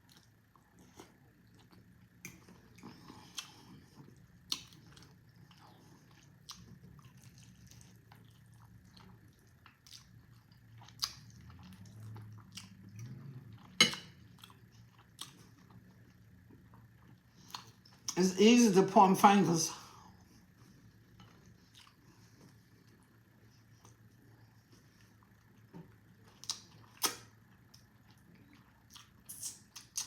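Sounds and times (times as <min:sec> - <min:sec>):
person chewing food: 0:00.0 - 0:18.2, 0:20.1 - 0:30.0.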